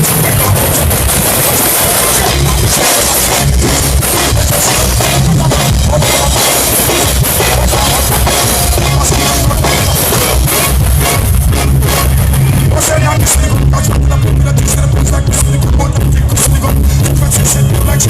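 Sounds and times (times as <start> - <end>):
loud dancehall music: 0.0 - 18.0.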